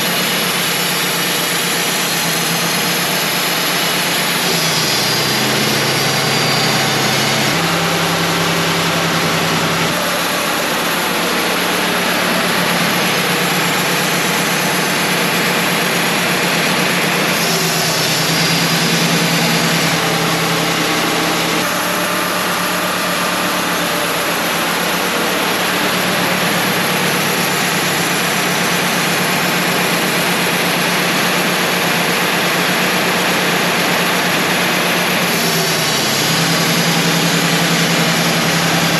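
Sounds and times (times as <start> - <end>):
portable sawmill running: 0.0 - 38.9.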